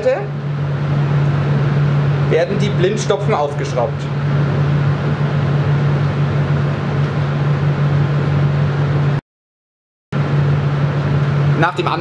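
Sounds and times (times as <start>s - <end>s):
blower hum and airflow: 0.0s - 9.2s, 10.1s - 12.0s.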